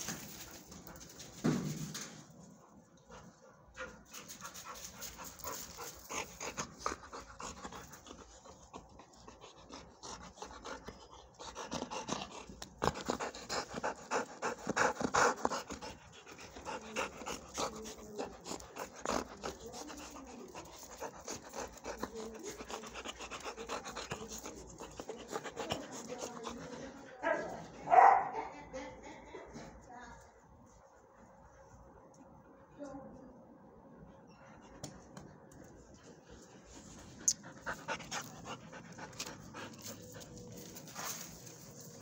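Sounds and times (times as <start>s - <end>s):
dog panting: 2.6s - 28.6s, 34.4s - 42.0s.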